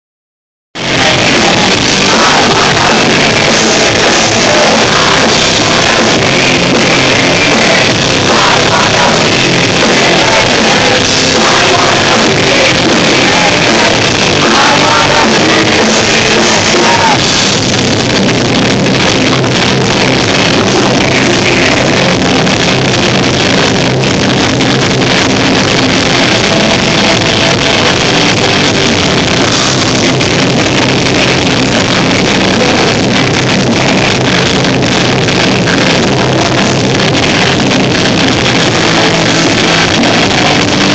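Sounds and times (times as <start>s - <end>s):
person singing: 0.8s - 17.5s, 19.2s - 23.4s, 25.6s - 40.9s
rock band playing live: 0.8s - 40.9s.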